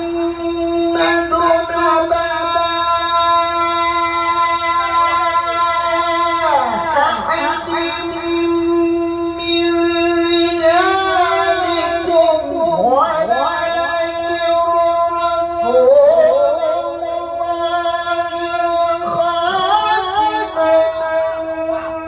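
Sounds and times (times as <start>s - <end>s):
man reciting melodically through pa: 0.0s - 22.0s.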